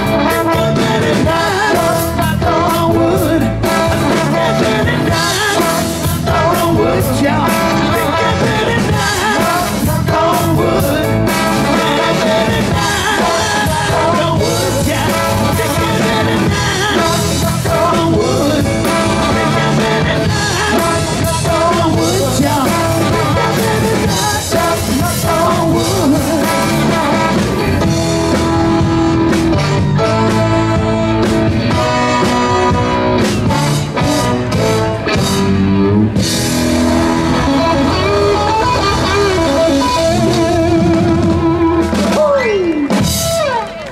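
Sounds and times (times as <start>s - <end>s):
man singing lead vocal: 0.0s - 34.9s, 36.7s - 43.6s
live rock band playing: 0.0s - 43.9s.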